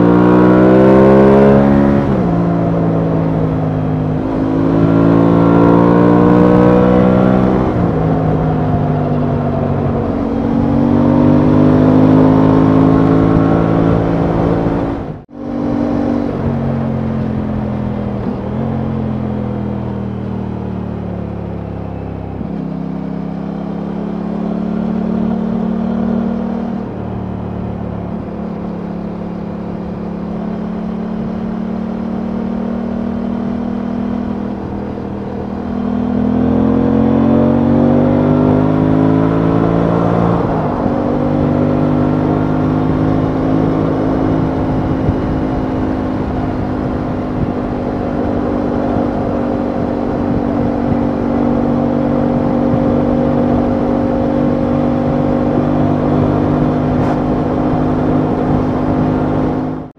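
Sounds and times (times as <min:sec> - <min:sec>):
wind rushing over microphone: 0:00.0 - 0:20.0, 0:24.8 - 0:59.9
motorcycle engine accelerating: 0:00.0 - 0:59.9.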